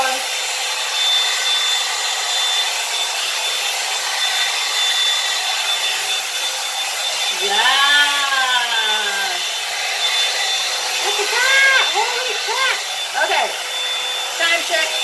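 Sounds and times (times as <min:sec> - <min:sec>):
hot-air brush dryer running: 0:00.0 - 0:15.0.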